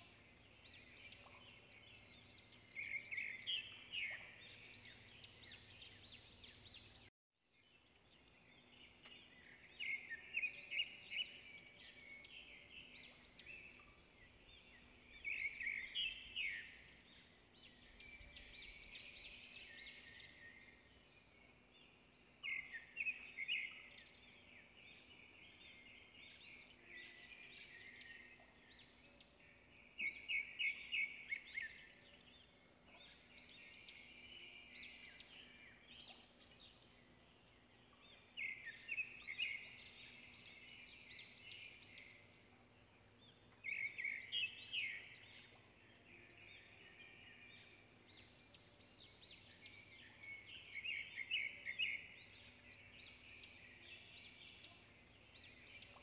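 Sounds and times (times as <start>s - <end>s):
birds chirping: 7.7s - 56.0s.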